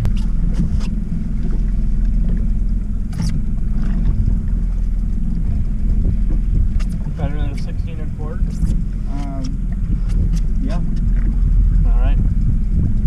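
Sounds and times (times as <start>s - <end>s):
light clicks on boat: 0.0s - 11.4s
outboard motor humming: 0.0s - 13.0s.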